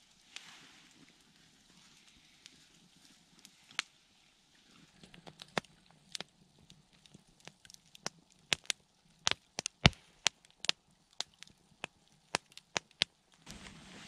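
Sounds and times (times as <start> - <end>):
campfire crackling and popping: 0.0 - 3.9, 4.8 - 14.0.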